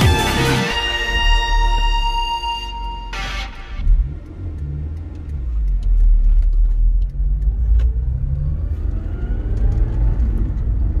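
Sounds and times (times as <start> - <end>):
car engine: 0.0 - 11.0
road rumble: 1.1 - 11.0.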